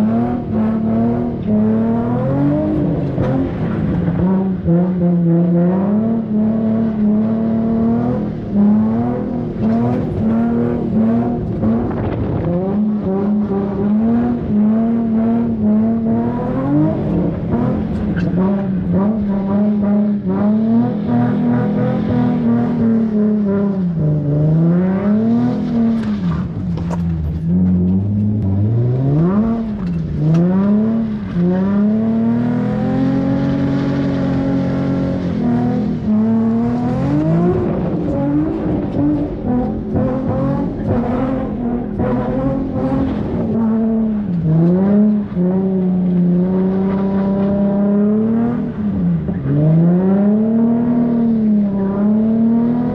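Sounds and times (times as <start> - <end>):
car engine revving high: 0.0 - 52.9.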